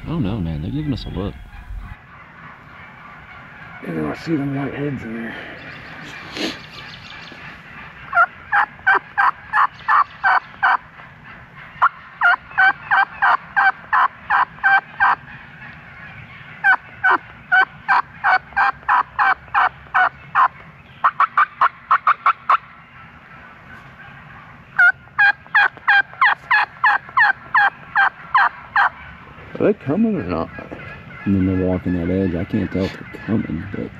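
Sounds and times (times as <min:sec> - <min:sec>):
turkeys yelping: 0:00.0 - 0:33.9.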